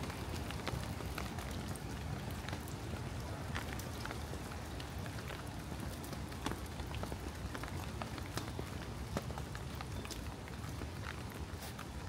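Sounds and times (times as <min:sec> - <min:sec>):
rain drops ticking: 0:00.0 - 0:12.0.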